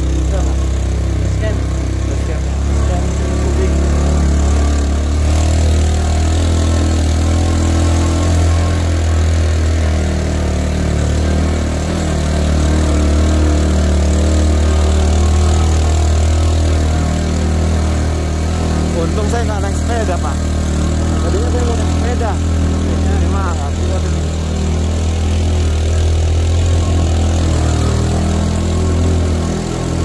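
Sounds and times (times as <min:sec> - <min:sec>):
small motorcycle engine droning: 0:00.0 - 0:30.0.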